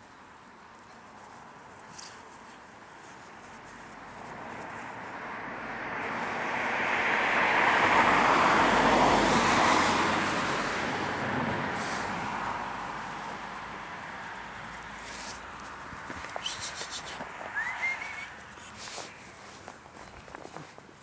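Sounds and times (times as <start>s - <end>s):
vehicle passing: 1.1s - 20.9s.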